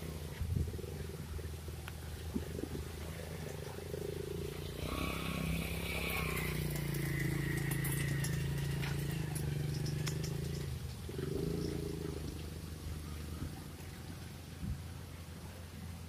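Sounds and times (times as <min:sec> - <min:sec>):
motorcycle passing by: 0:00.0 - 0:16.0
truck diesel engine humming: 0:00.0 - 0:16.0.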